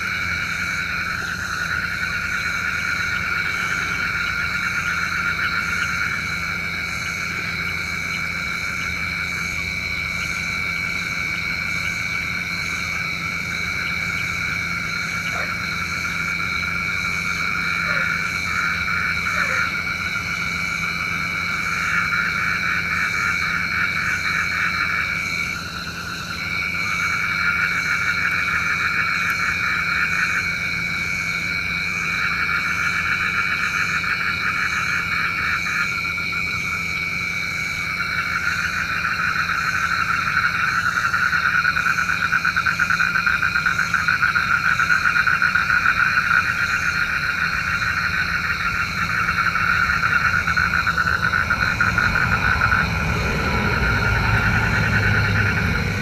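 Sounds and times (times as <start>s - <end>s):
frogs trilling: 0.0s - 56.0s.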